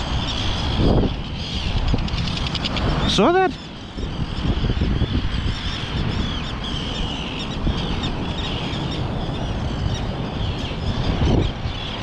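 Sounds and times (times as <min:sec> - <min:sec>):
seabirds calling: 0:00.0 - 0:12.0
wind rumble on microphone: 0:00.0 - 0:12.0.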